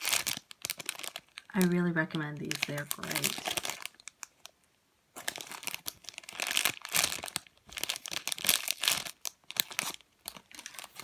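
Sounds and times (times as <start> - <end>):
packaging crinkling: 0.0 - 4.6, 5.2 - 11.0.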